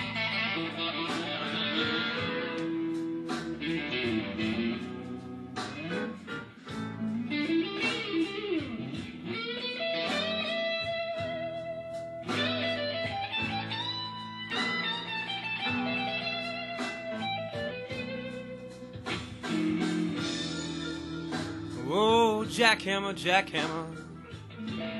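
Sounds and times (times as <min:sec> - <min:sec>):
electric guitar blues lead: 0:00.0 - 0:24.9.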